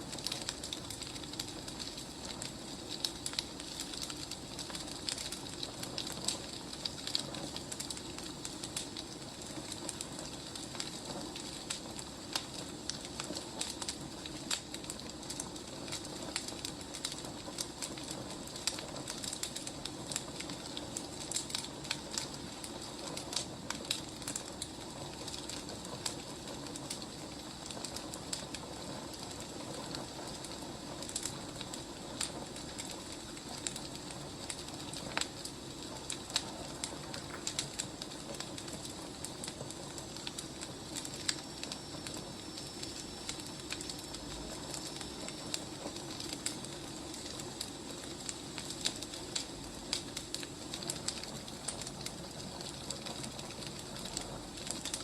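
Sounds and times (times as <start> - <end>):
fire crackling and popping: 0.0 - 55.0
fire hissing: 0.0 - 55.0.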